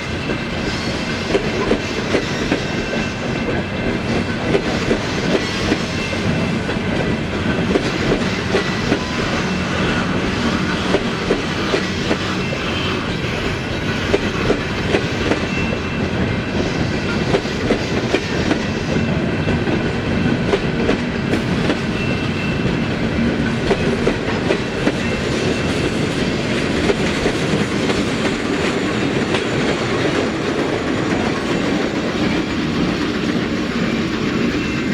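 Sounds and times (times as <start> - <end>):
train wheels clattering over rails: 0.0 - 34.9.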